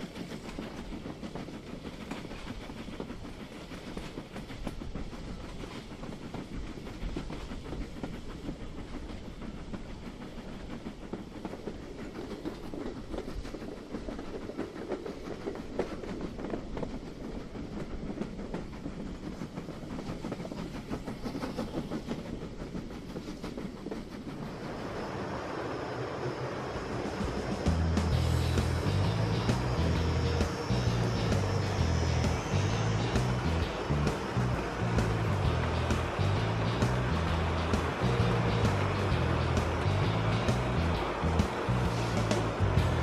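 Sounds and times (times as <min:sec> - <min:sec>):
train wheels clicking on rails: 0:00.0 - 0:43.0.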